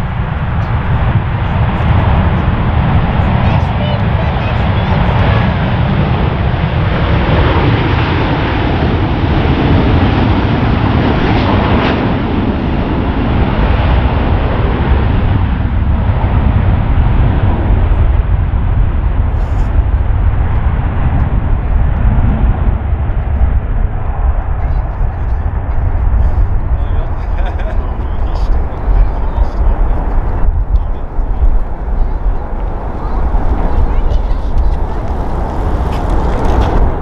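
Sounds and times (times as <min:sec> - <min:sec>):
jet engines at take-off thrust: 0:00.0 - 0:37.0.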